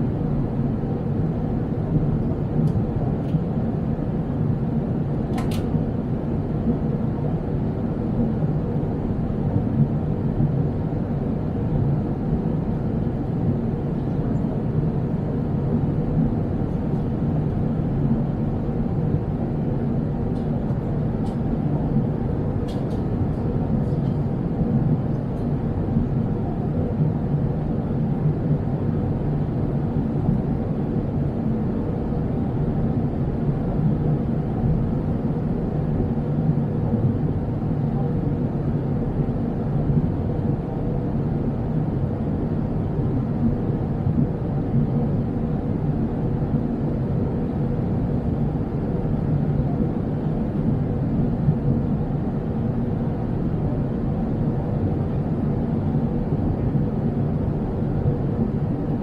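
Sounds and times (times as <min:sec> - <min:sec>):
jet engine rumble: 0:00.0 - 0:59.0.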